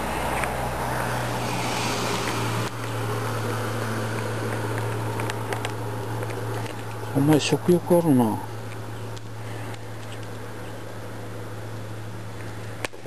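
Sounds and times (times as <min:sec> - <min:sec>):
outdoor background noise: 0:00.0 - 0:13.0
steady low hum: 0:00.0 - 0:13.0.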